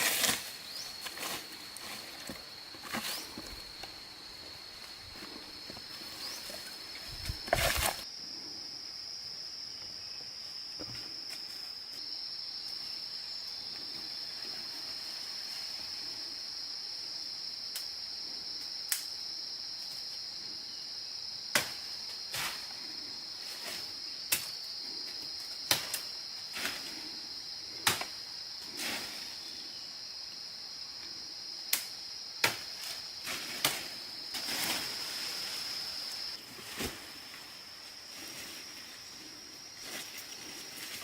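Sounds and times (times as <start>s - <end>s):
insect chorus: 0.0s - 41.0s.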